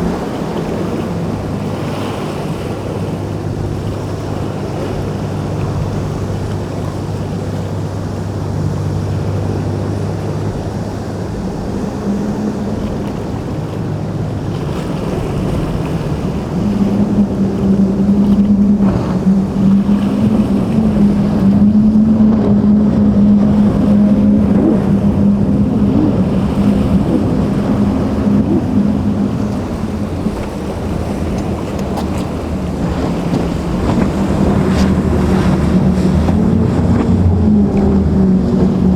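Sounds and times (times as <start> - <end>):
motorboat engines humming: 0.0 - 38.9
waves washing: 0.0 - 38.9
wind buffeting microphone: 0.0 - 38.9.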